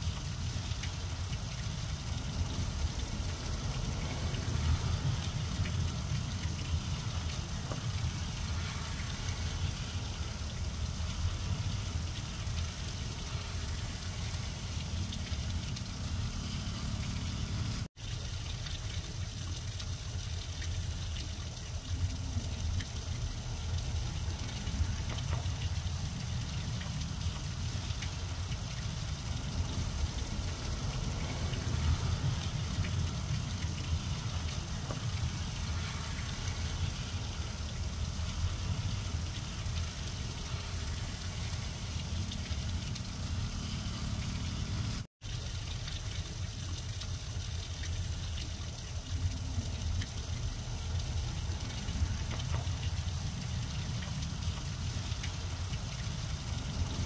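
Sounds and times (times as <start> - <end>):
rain falling on grass: 0.0 - 57.0.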